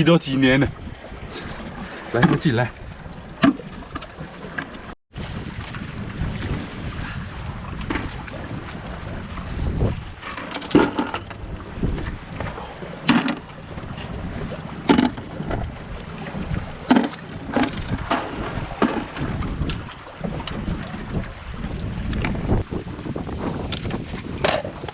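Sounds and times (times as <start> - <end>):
wind buffeting microphone: 0.5 - 24.9.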